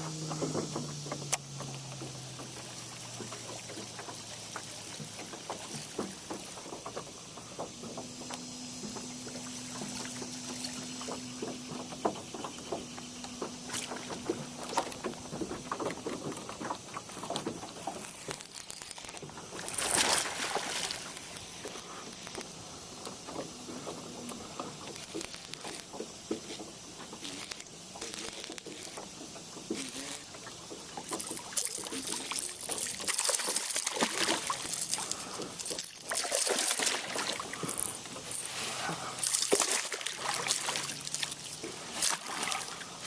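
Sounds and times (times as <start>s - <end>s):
water splashing and trickling: 0.1s - 43.0s.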